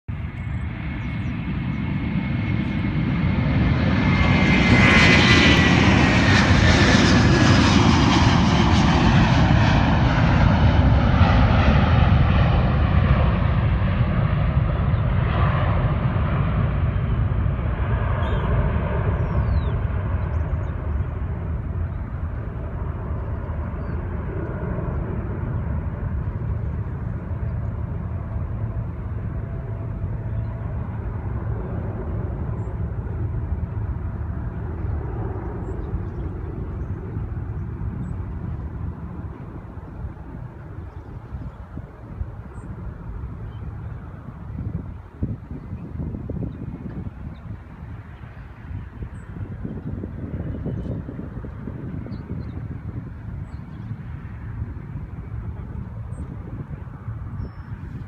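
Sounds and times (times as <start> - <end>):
airliner passing close by: 0.1 - 58.0
high jet engine whine: 0.1 - 58.0.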